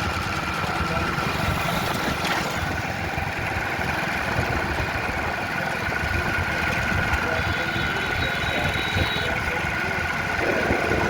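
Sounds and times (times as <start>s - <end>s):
engine idling with whine: 0.0s - 11.0s.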